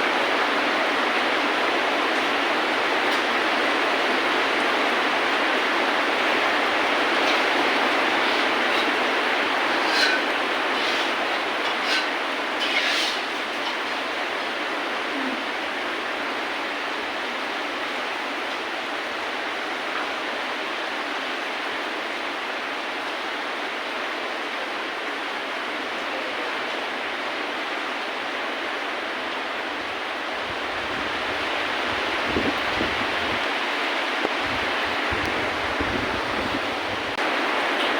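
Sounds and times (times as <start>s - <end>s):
steady rain hiss: 0.0s - 37.9s.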